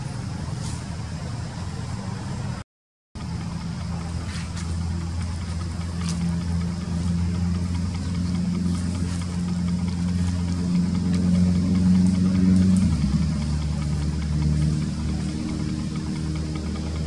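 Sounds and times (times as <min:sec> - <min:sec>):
engine idling hum: 0:00.0 - 0:02.6, 0:03.2 - 0:17.0
faint high ticks: 0:03.2 - 0:17.0.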